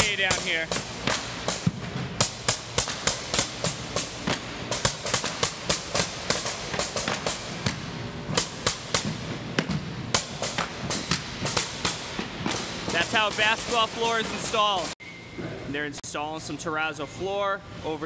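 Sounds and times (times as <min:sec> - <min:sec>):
mallet striking flooring nailer: 0:00.4 - 0:14.9.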